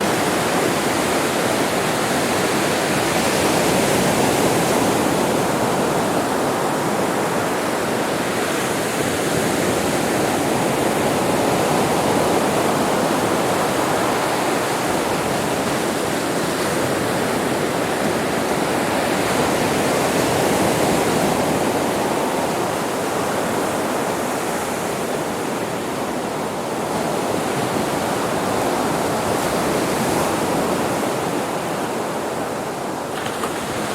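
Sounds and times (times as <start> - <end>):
waves breaking on a beach: 0.0 - 33.9.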